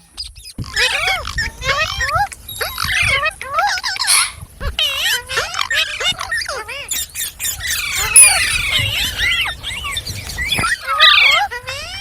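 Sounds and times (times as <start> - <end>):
parrot squawks and chirps: 0.0 - 12.0.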